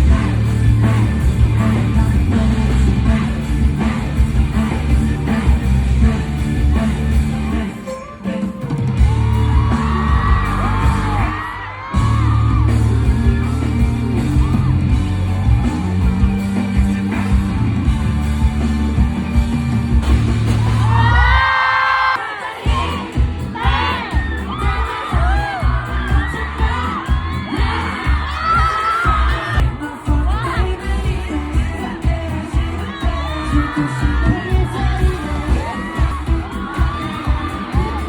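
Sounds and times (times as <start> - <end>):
crowd screaming and whooping: 0.0 - 38.0
pop music with heavy bass: 0.0 - 38.0.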